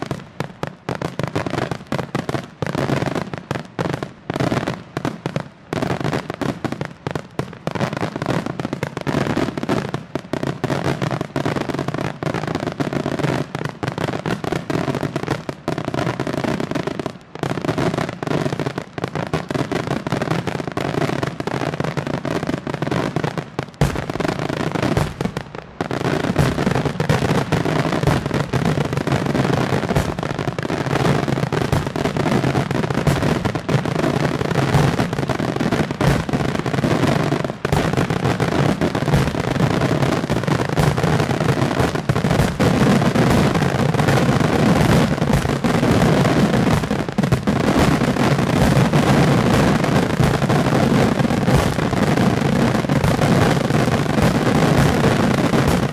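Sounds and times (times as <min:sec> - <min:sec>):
fireworks bursts and crackle: 0:00.0 - 0:55.9.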